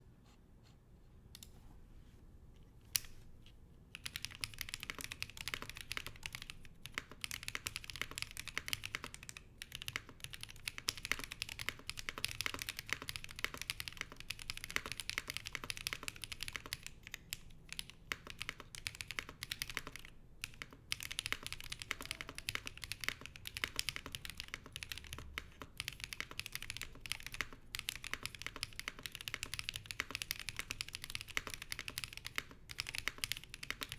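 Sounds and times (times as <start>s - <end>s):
fast typing on mechanical keyboard: 3.9s - 33.9s.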